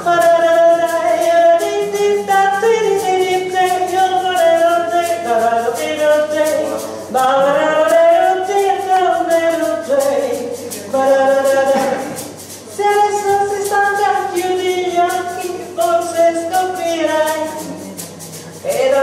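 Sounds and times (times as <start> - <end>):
woman singing without words: 0.0 - 19.0.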